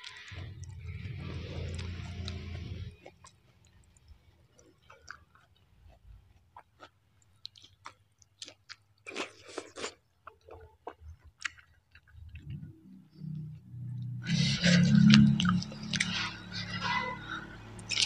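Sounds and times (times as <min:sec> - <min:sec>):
person chewing food: 0:00.0 - 0:12.7, 0:13.4 - 0:18.0.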